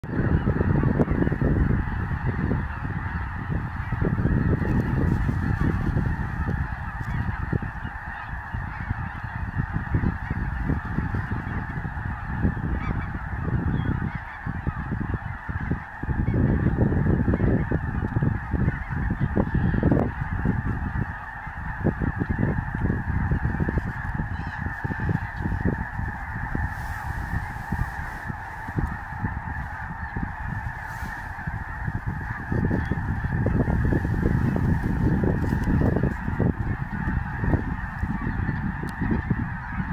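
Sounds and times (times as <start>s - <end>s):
flock of geese honking: 0.0s - 39.9s.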